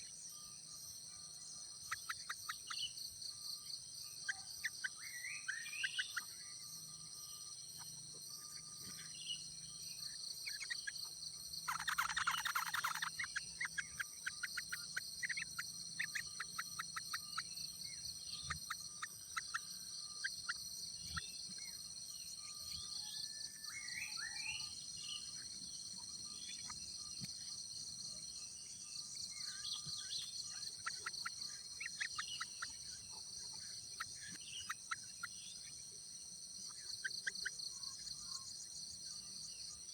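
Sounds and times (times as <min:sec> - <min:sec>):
bird chirps: 0:00.0 - 0:36.0, 0:36.6 - 0:39.9
high insect drone: 0:00.0 - 0:39.9.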